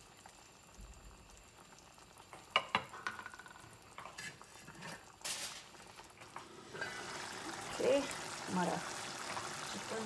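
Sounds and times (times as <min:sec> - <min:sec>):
sauce simmering and sizzling: 0:00.0 - 0:10.0.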